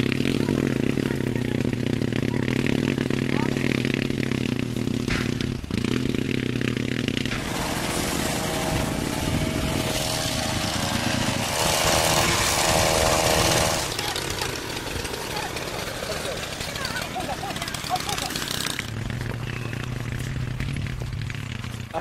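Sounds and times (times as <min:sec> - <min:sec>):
engine exhaust buzzing: 0:00.0 - 0:22.0.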